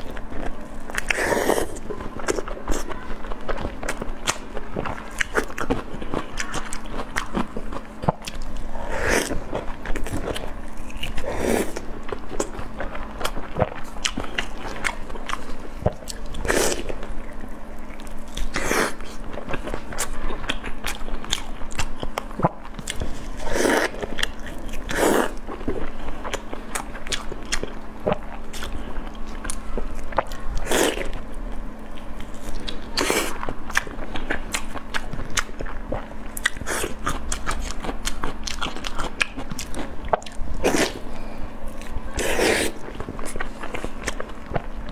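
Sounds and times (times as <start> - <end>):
wet chewing: 0.0 - 44.9.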